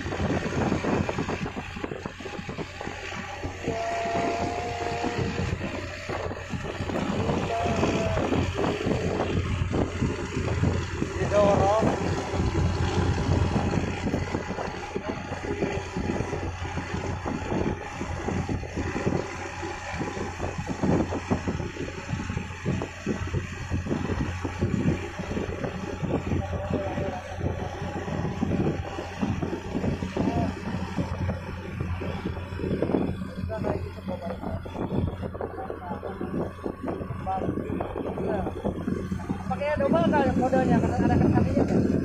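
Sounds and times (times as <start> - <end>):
low engine rumble: 0.0 - 42.0
wind buffeting microphone: 0.0 - 42.0.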